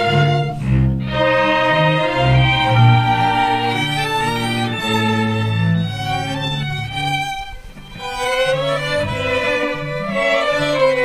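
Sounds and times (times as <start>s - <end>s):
string ensemble playing classical piece: 0.0s - 11.0s.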